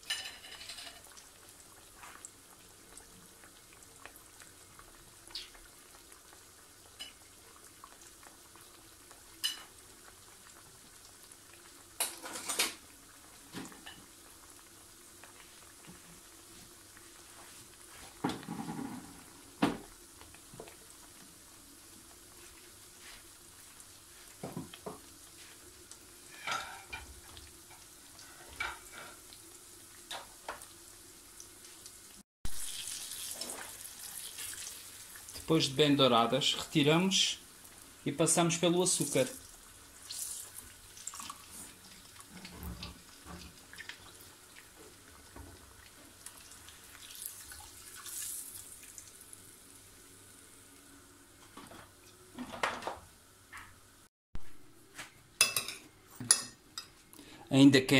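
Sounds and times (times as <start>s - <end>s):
pastries sizzling in oil: 0.0s - 57.7s.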